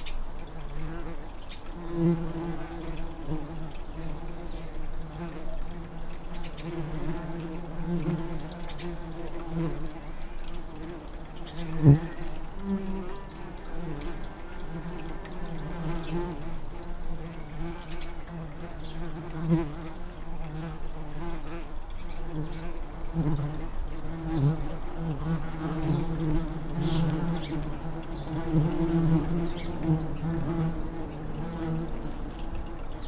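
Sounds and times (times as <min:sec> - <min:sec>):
bumblebees buzzing: 0:00.0 - 0:33.0.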